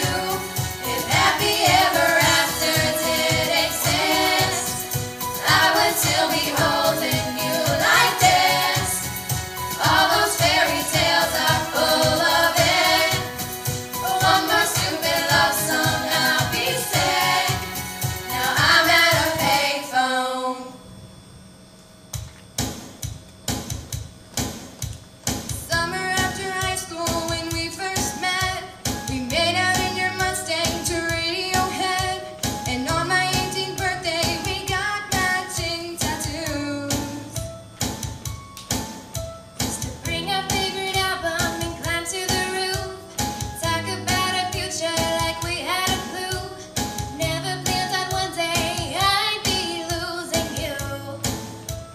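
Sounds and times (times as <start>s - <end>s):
backing track beat: 0.0s - 19.8s, 22.2s - 51.9s
girls singing pop: 0.0s - 20.8s, 25.6s - 37.4s, 39.8s - 51.4s.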